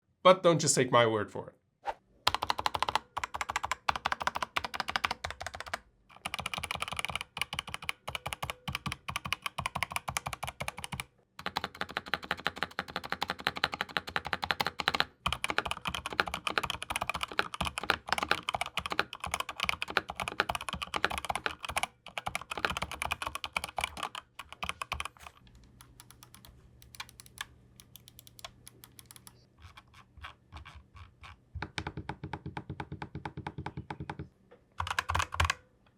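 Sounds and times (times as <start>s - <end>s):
fast typing on mechanical keyboard: 2.3s - 34.1s, 34.8s - 35.6s.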